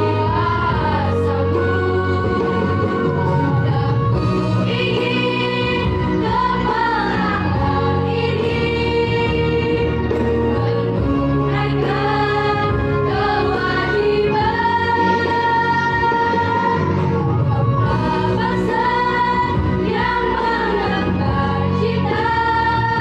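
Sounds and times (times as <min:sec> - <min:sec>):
girls choir singing: 0:00.0 - 0:23.0.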